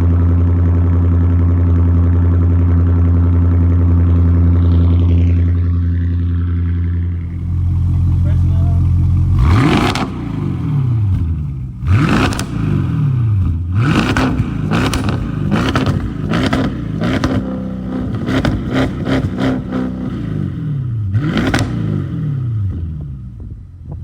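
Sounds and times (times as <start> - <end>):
exhaust crackling and popping: 2.2 - 20.5, 21.1 - 22.1
car engine revving: 4.2 - 23.6.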